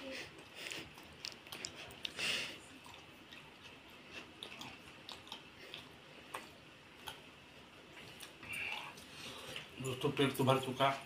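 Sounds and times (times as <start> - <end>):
person chewing food: 0.1 - 9.8.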